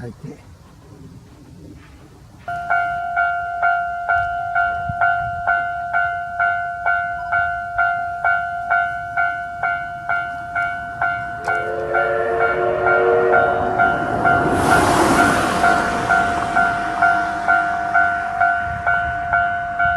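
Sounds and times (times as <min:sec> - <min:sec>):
oncoming train: 0:01.8 - 0:19.9
level-crossing warning bell ringing: 0:02.5 - 0:19.9
lower steady tones: 0:02.5 - 0:19.9.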